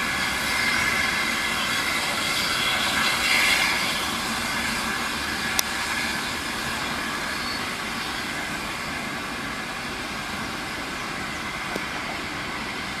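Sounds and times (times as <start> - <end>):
steam locomotive roar: 0.0 - 13.0.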